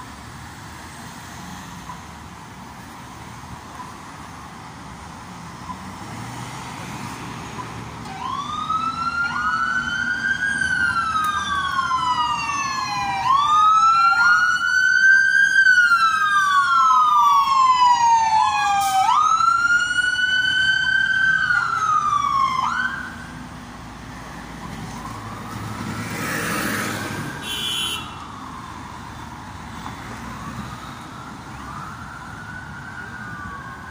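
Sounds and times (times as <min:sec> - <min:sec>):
fire engine siren wailing: 0:06.7 - 0:33.9.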